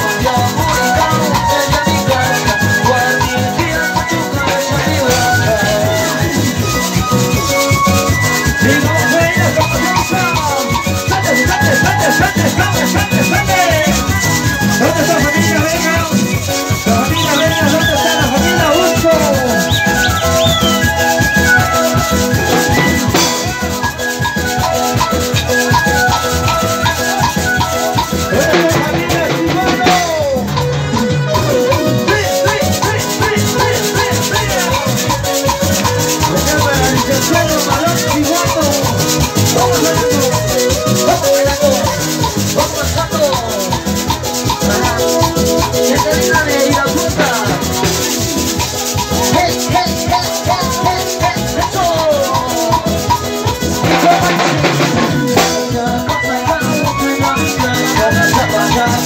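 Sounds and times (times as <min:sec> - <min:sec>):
band dance music: 0:00.0 - 0:59.0.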